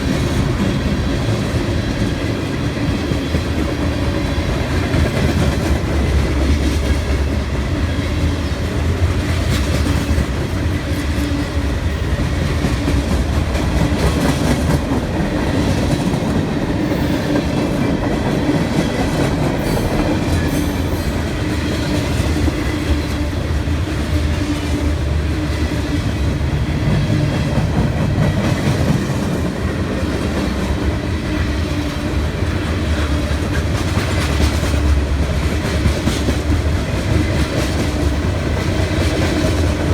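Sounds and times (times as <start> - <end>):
freight train rumbling past: 0.0 - 39.9
train wheels clicking on rails: 0.0 - 39.9.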